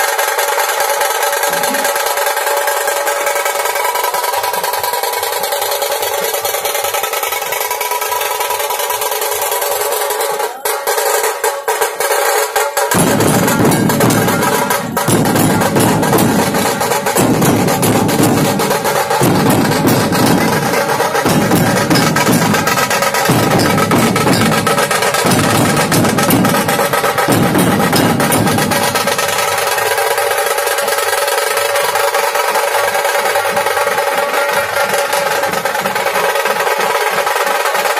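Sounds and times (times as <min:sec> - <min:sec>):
high percussion rattle: 0:00.0 - 0:37.9
deep drum strokes: 0:00.3 - 0:37.9.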